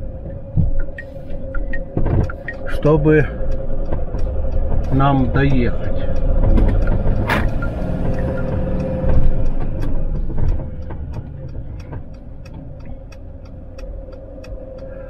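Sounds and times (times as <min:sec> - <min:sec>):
engine and tyre rumble: 0:00.0 - 0:15.0
turn signal ticking: 0:00.0 - 0:15.0.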